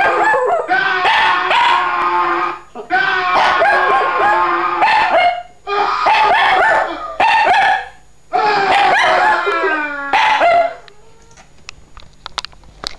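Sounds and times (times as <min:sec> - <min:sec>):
dog howling and yowling: 0:00.0 - 0:07.7, 0:08.3 - 0:11.4.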